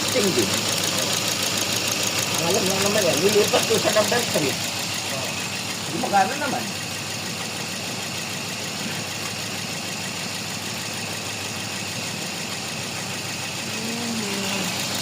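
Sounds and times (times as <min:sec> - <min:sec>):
car engine idling and misfiring: 0:00.0 - 0:15.0.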